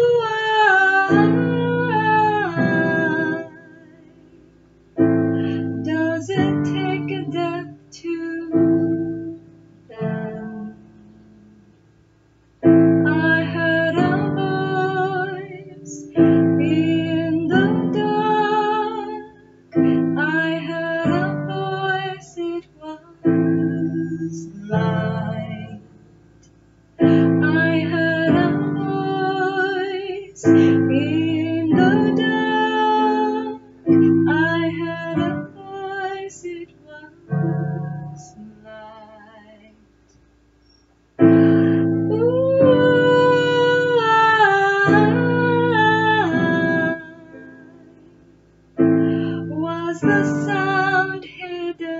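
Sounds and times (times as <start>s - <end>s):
woman singing with vibrato: 0.0s - 4.4s, 5.0s - 11.5s, 12.6s - 25.9s, 27.0s - 39.8s, 41.2s - 48.2s, 48.8s - 51.9s
digital piano chords: 0.0s - 38.5s, 39.9s - 51.9s.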